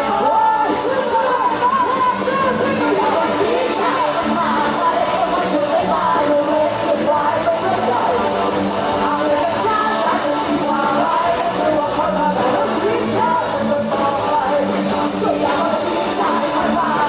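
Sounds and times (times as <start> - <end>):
live band playing pop-rock: 0.0 - 17.0
woman singing: 0.0 - 17.0.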